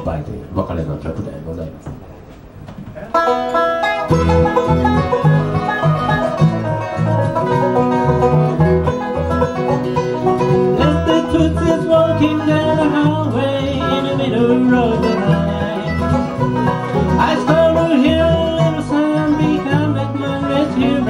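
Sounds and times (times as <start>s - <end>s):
guitar: 1.8s - 21.0s
banjo picking: 3.0s - 21.0s.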